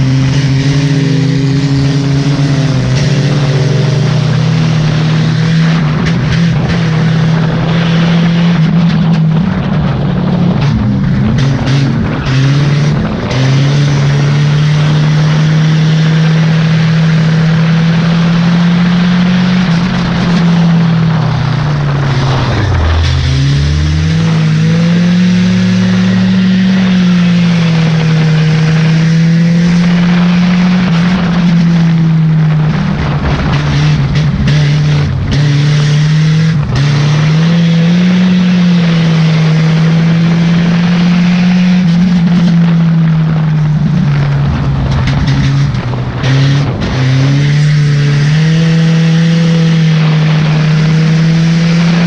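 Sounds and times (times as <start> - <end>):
race car engine revving: 0.0 - 52.0.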